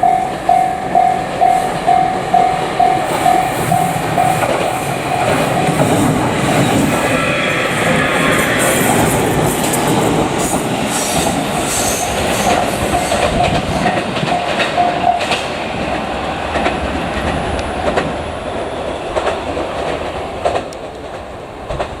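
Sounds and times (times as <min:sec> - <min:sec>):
electric train running past: 0:00.0 - 0:22.0
wheels clacking over rail joints: 0:00.3 - 0:22.0.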